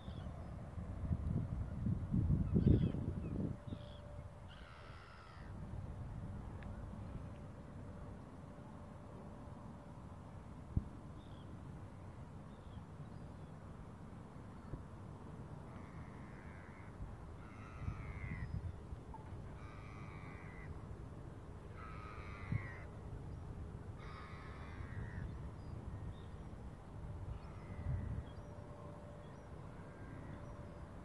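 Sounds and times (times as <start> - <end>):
low wind rumble: 0.0 - 31.0.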